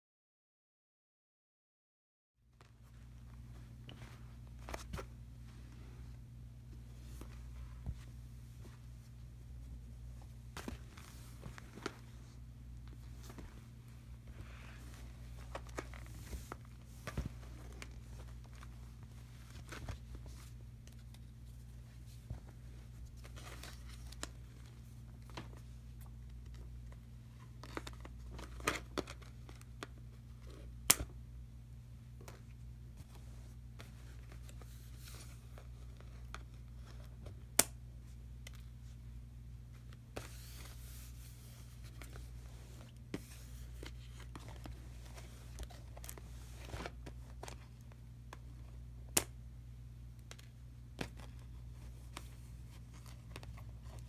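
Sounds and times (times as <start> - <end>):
low steady hum: 2.4 - 54.0.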